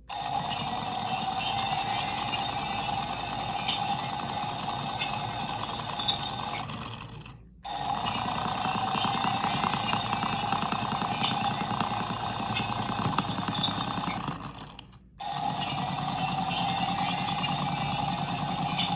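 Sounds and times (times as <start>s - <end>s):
small electric motor whining and rattling: 0.0s - 18.9s.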